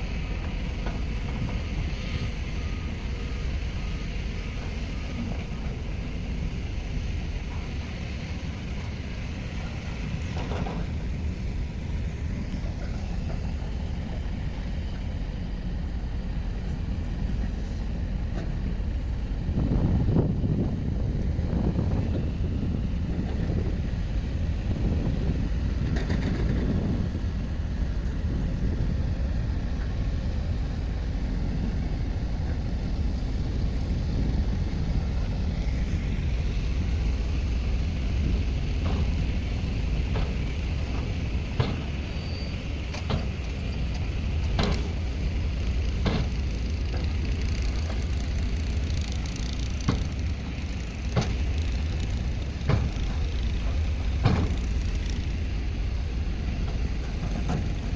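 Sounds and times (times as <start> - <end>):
diesel engine rumbling: 0.0 - 57.9.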